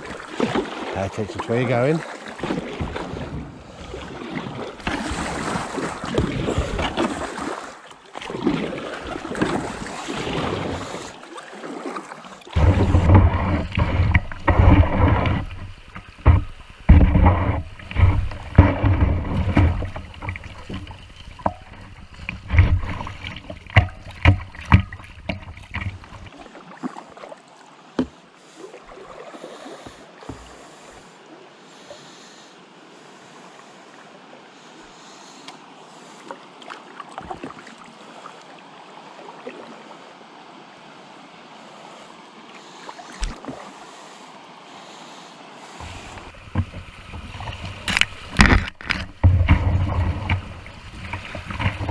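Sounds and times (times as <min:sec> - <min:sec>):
paddle strokes: 0:00.0 - 0:38.6, 0:41.6 - 0:51.9
river water splashing: 0:00.0 - 0:51.9
rough water rushing: 0:00.0 - 0:51.9.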